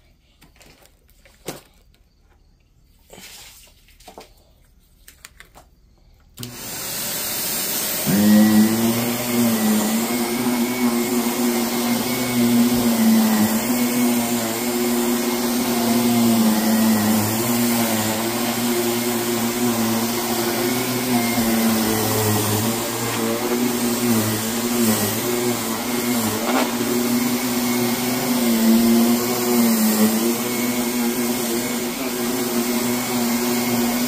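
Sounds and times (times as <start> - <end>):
floor machine motor hum: 6.4 - 34.0.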